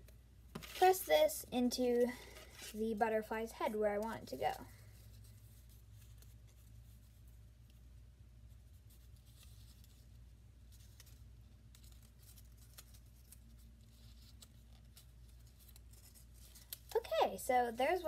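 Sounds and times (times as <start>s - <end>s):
low room hum: 0.0s - 18.0s
paper strips rustling: 0.5s - 7.8s, 8.8s - 18.0s.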